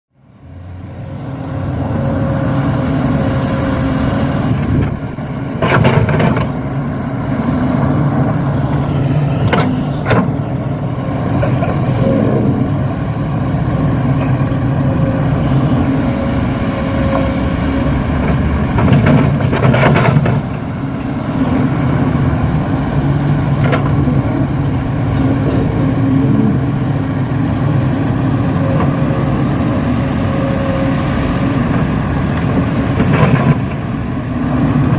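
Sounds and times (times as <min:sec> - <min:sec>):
heavy equipment engine running: 0:00.2 - 0:34.9.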